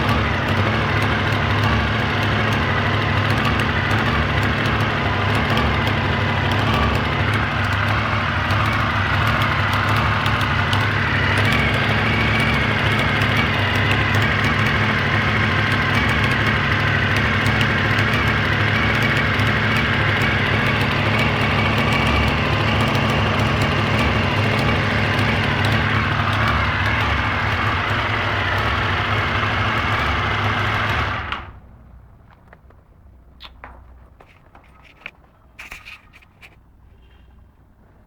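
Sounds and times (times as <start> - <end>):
strange exhaust noise: 0.0 - 31.7
motorcycle engine idling: 0.0 - 35.7.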